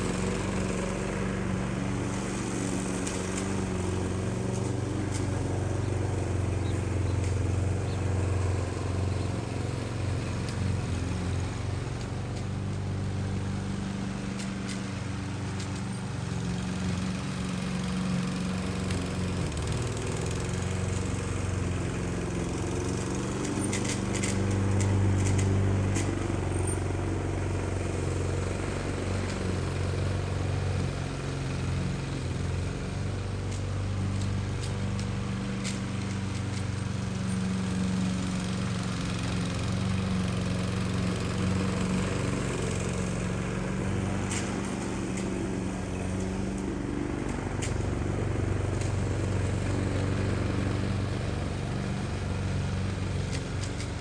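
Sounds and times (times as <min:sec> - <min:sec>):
grass cutter engine running: 0:00.0 - 0:54.0.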